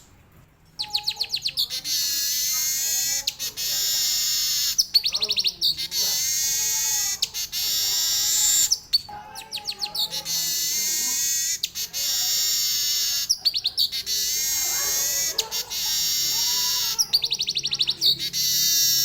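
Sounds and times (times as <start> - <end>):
bird singing buzzing song: 0.8 - 19.0.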